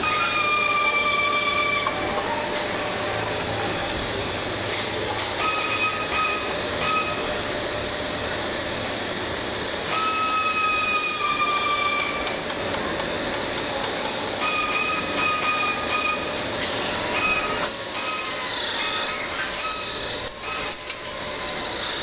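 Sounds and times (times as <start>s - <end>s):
high machine whine: 0.0s - 22.0s
machine hiss: 0.0s - 22.0s.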